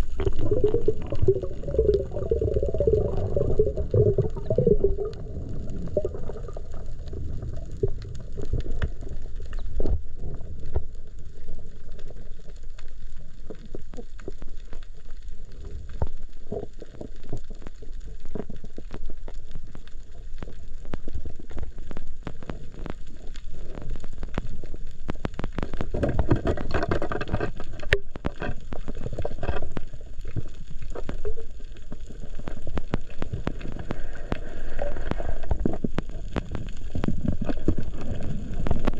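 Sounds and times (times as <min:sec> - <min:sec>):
low rumble of moving water: 0:00.0 - 0:38.9.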